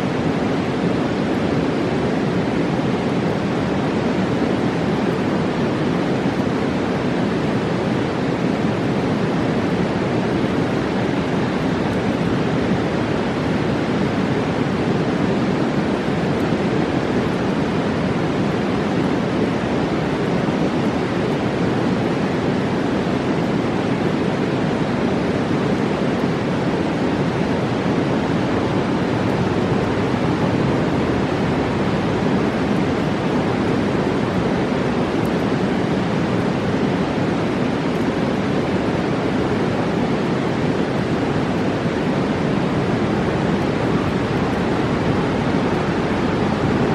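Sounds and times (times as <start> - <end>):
river rushing: 0.0 - 46.9.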